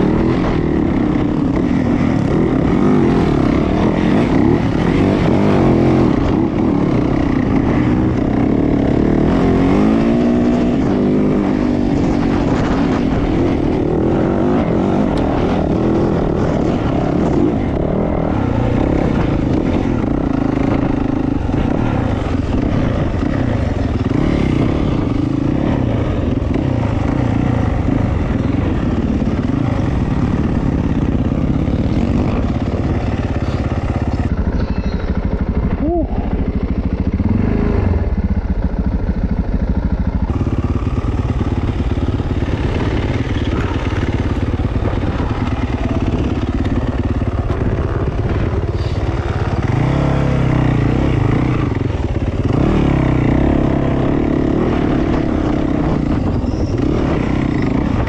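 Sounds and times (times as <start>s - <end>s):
dirt bike engine revving: 0.0s - 38.9s, 40.0s - 58.0s.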